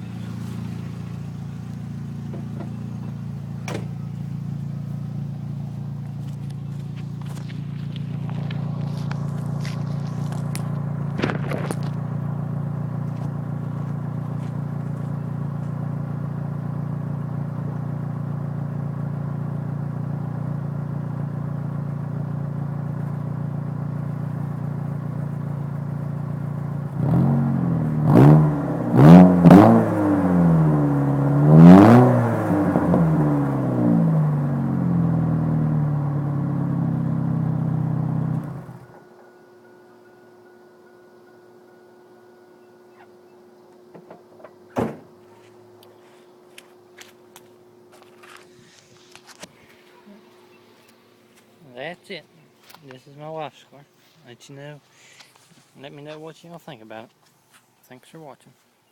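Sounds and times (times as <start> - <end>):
car engine idling and revving: 0.0 - 53.4.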